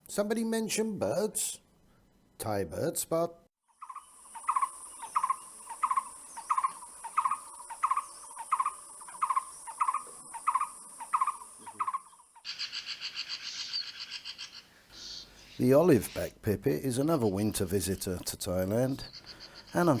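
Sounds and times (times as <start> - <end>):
fast high chattering calls: 3.8 - 20.0.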